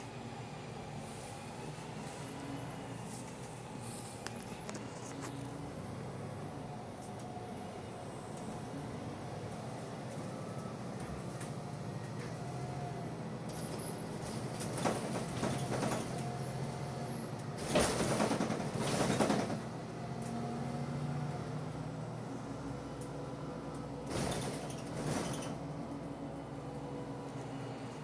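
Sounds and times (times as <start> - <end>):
bus engine running: 0.0 - 28.0.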